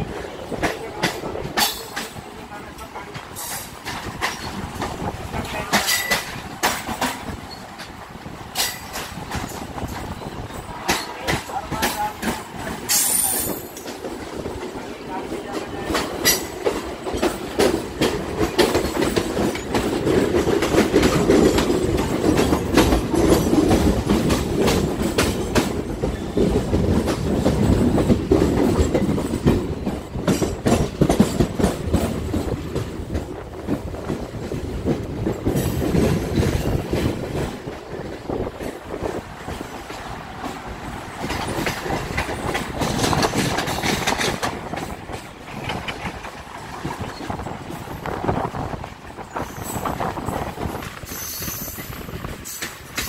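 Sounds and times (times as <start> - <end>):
train carriages rumbling: 0.0 - 53.0
wheels clattering over rail joints: 0.0 - 53.0.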